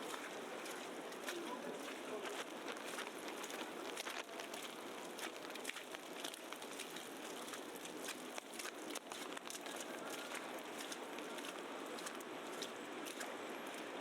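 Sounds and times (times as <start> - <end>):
steady street hiss: 0.0 - 14.0
wet snow crackling and pattering: 0.0 - 14.0.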